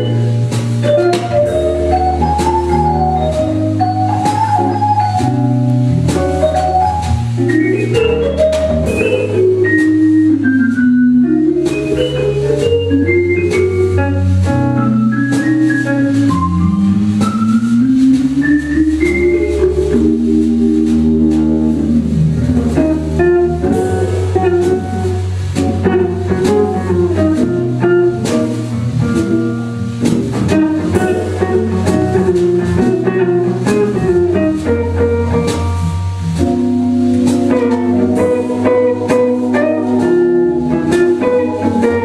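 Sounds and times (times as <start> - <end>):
bass line: 0.0 - 42.0
drum kit: 0.0 - 42.0
jazz electric organ solo: 0.0 - 42.0.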